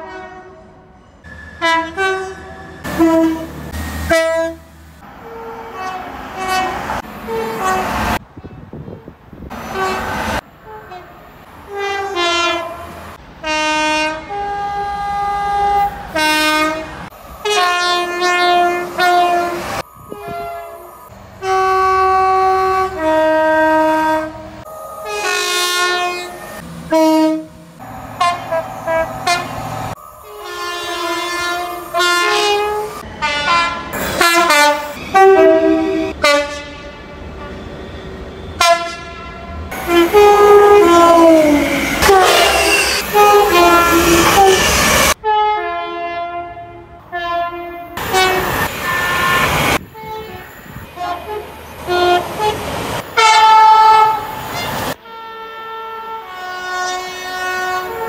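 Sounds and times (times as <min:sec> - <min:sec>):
two-tone train horn blasts: 0:00.0 - 0:09.1, 0:09.7 - 0:37.7, 0:38.4 - 0:58.0.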